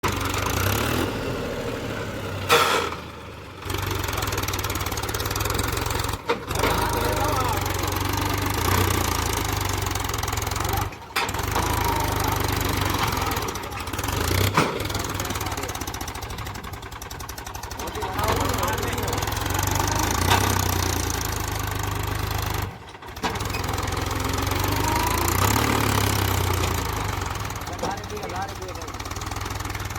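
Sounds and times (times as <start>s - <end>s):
tractor engine chugging: 0.0s - 29.9s.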